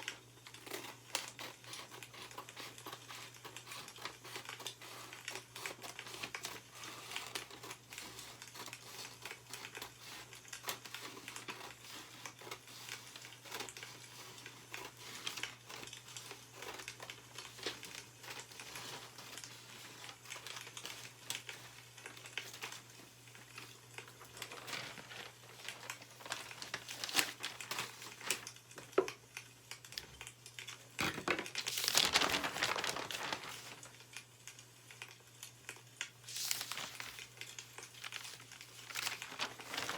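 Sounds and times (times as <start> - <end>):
newspaper rustling and crinkling: 0.5 - 29.1, 31.0 - 34.3, 36.2 - 39.9.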